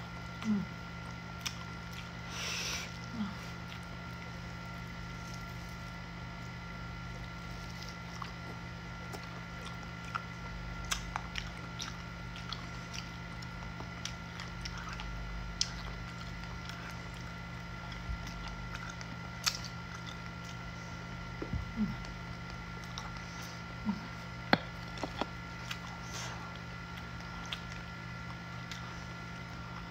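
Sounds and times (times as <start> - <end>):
person chewing meat: 0.0 - 29.9
steady electrical hum: 0.0 - 29.9.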